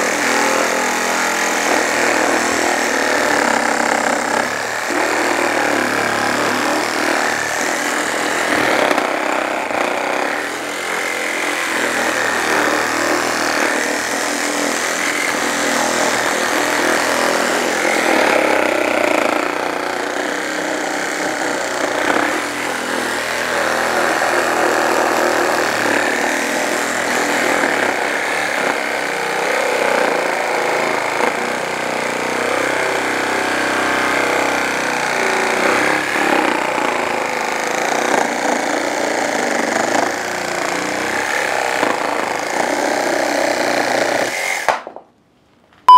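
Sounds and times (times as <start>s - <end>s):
reciprocating saw cutting wood: 0.0s - 44.7s.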